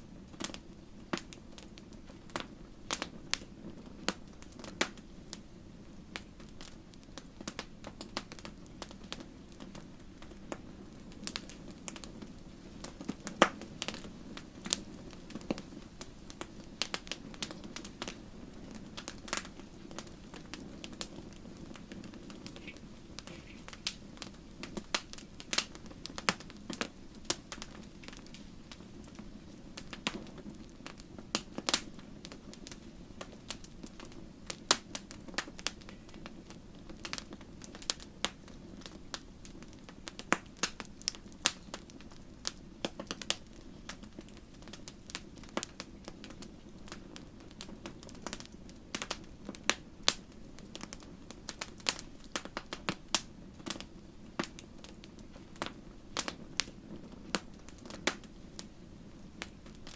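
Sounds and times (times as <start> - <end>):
wood campfire crackling: 0.0 - 59.9.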